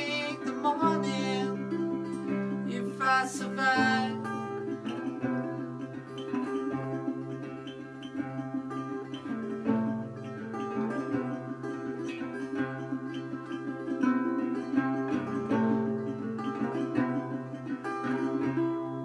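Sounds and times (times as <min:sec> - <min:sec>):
fingerpicked resonator guitar: 0:00.0 - 0:19.0.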